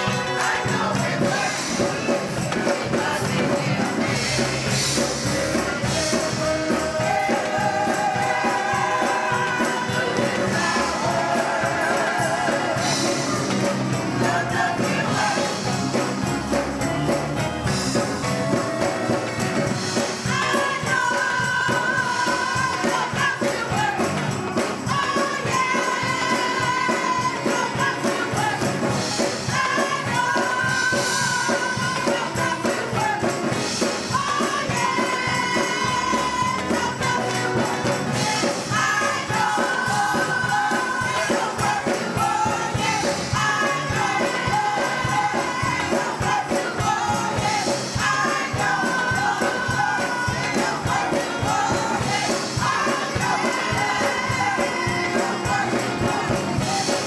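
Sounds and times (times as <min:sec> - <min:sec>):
gospel choir singing: 0:00.0 - 0:57.0
instrumental accompaniment: 0:00.0 - 0:57.0
tambourine rhythm: 0:00.0 - 0:57.0.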